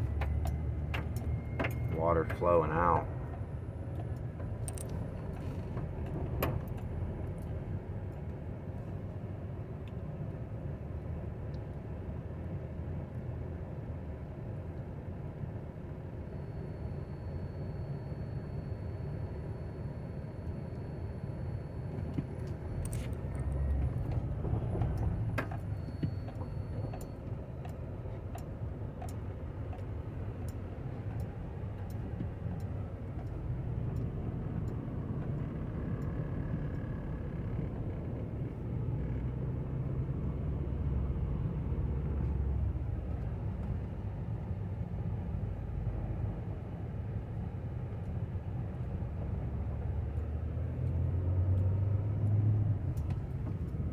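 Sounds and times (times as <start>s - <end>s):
car road noise rumble: 0.0s - 53.9s.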